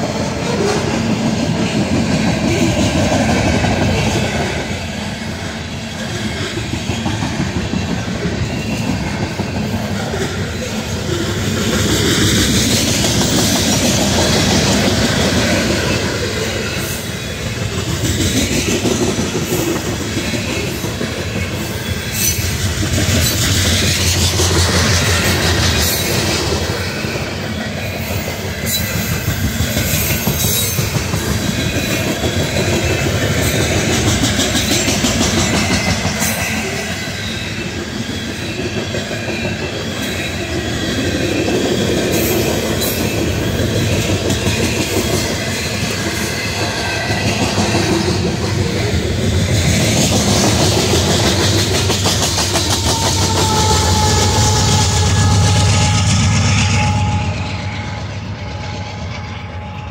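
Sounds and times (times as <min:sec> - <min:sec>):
rhythmic clickety-clack: 0:00.0 - 0:59.9
train wheels rumbling on rail: 0:00.0 - 0:59.9.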